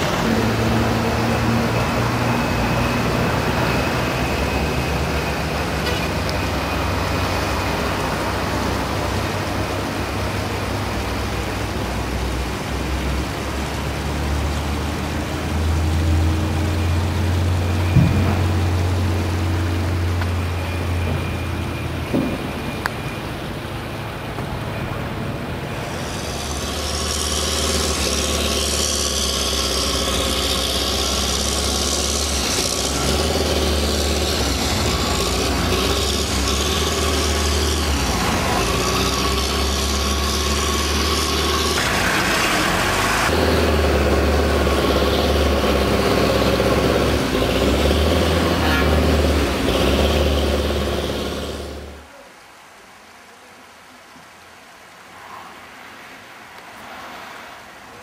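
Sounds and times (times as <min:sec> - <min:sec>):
vehicle engines and road traffic: 0:00.0 - 0:58.0.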